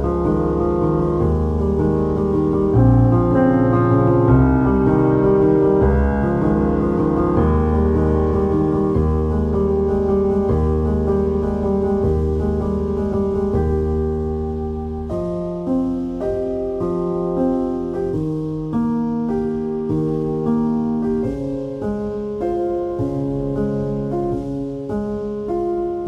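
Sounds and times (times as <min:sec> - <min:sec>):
piano background music: 0:00.0 - 0:26.0.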